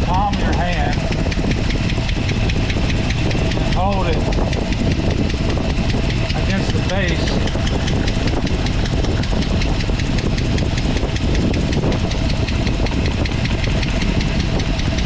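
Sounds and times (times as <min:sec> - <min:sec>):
engine idling: 0:00.0 - 0:15.0
rapid lifter tapping: 0:00.0 - 0:15.0.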